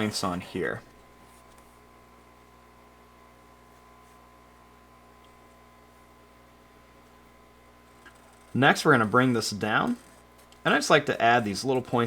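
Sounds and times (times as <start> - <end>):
faint electrical hum: 0.0 - 12.0
thin constant whine: 0.0 - 12.0.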